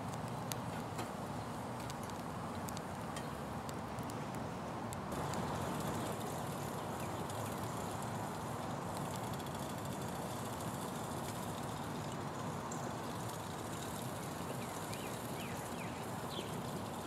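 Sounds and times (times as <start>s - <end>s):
wood fire crackling: 0.0s - 4.4s, 5.1s - 17.0s
steady fire hiss: 0.0s - 17.0s.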